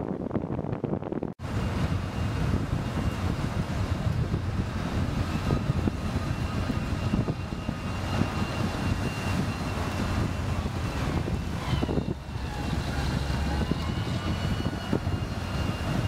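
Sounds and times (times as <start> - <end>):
engine rumble with high whine: 0.0 - 16.0.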